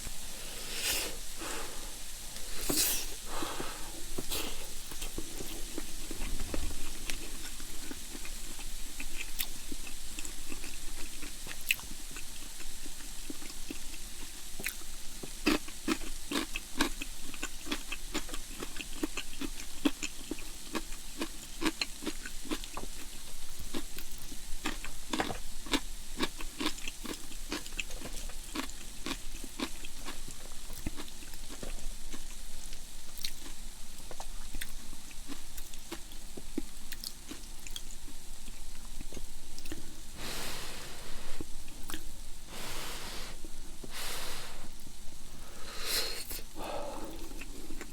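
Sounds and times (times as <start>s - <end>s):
person chewing food: 0.6s - 44.8s, 45.4s - 47.9s
food crunching: 2.3s - 14.0s, 14.6s - 32.4s, 33.2s - 44.6s.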